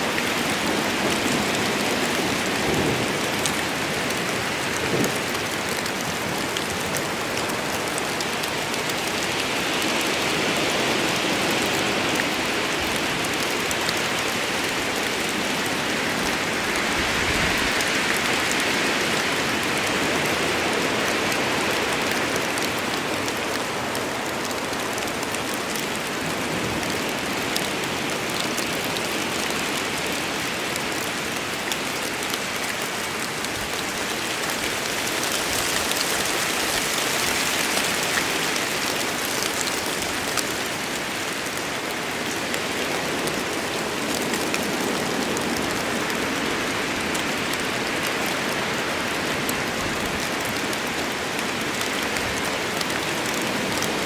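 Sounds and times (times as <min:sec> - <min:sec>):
heavy rain in forest: 0:00.0 - 0:54.0.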